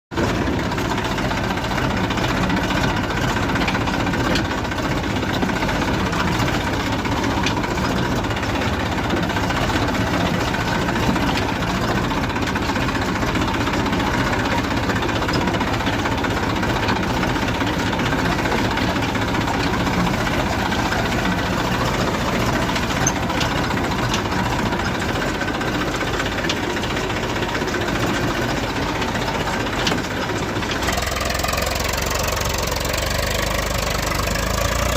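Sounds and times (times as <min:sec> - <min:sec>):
diesel tractor engine running: 0:00.1 - 0:34.9.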